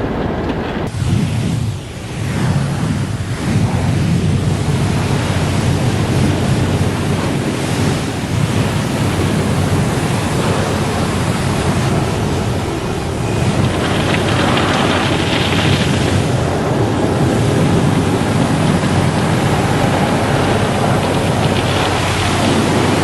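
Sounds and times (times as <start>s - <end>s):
car wash rushing: 0.0s - 23.0s
low hum: 0.0s - 23.0s.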